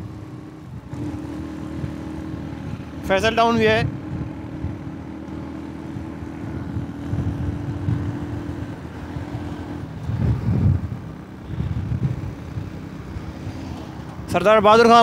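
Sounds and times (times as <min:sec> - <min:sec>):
wind buffeting microphone: 0:00.0 - 0:14.3
road rumble: 0:00.0 - 0:15.0
vehicle engine running: 0:00.0 - 0:15.0.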